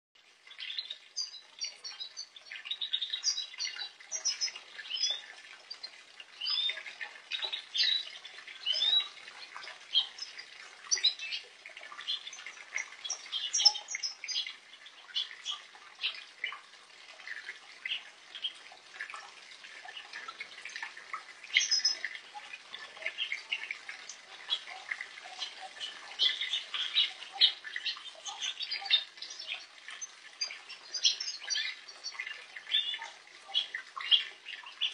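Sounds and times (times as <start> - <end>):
goldfinches twittering: 0.5 - 16.6, 21.5 - 22.2, 22.8 - 34.9.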